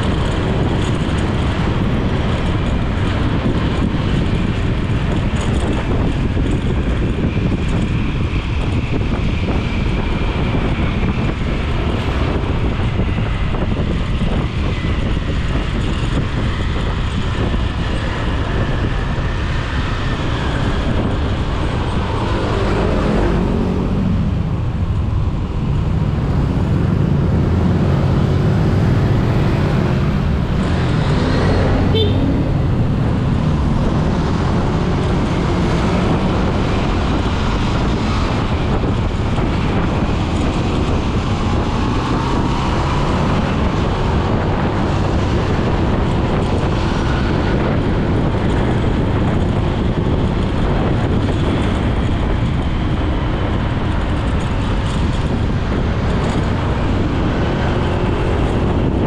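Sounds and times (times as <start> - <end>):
motorcycle engine: 0.0 - 59.0
road noise: 0.0 - 59.0
wind rushing: 0.0 - 59.0.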